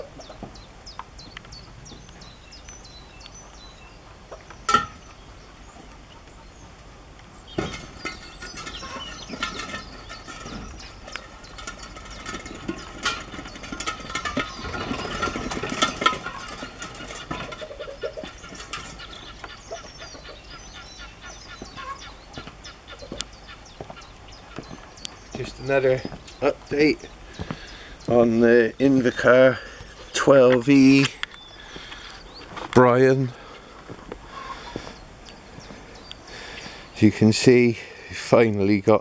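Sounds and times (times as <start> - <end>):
birds chirping and calling: 0.0 - 39.0.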